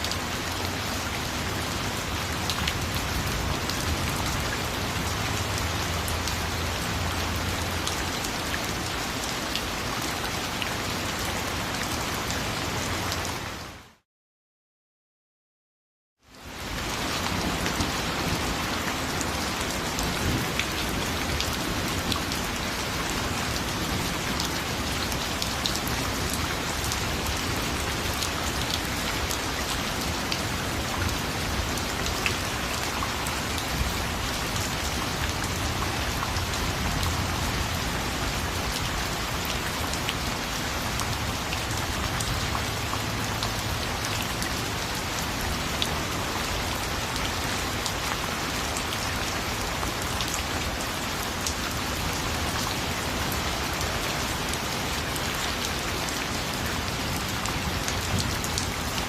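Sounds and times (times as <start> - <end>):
dense rainfall: 0.0 - 14.0, 16.2 - 59.0.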